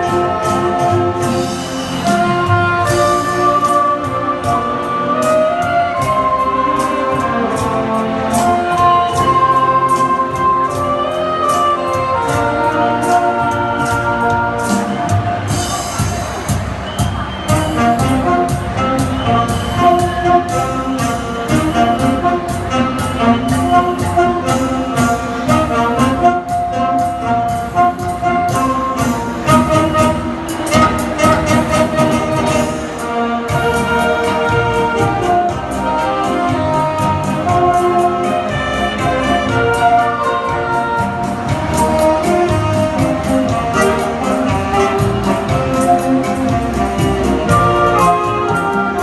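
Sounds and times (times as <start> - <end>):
saxophone ensemble playing: 0.0 - 49.0
steady beat: 0.0 - 49.0.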